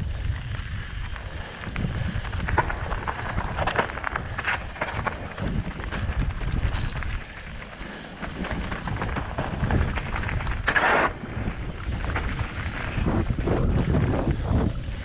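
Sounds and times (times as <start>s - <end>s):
bike rattling over gravel: 0.0s - 15.0s
wind buffeting microphone: 0.0s - 15.0s.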